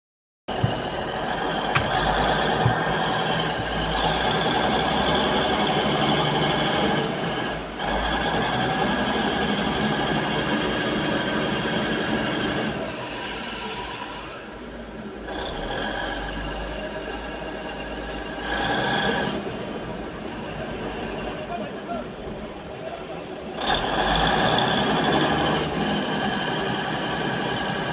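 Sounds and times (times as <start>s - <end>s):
heavy diesel engines under load: 0.5s - 27.9s.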